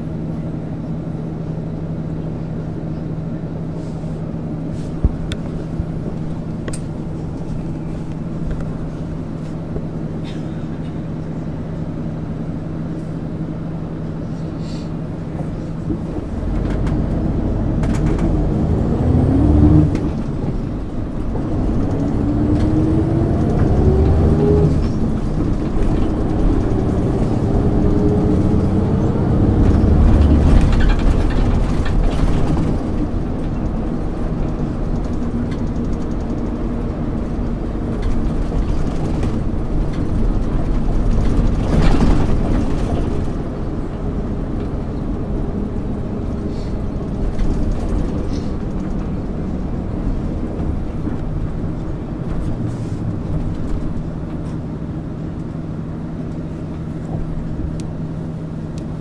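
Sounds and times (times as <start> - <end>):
bus diesel engine idling: 0.0 - 19.4, 20.0 - 59.0
bus accelerating through gears: 0.0 - 59.0.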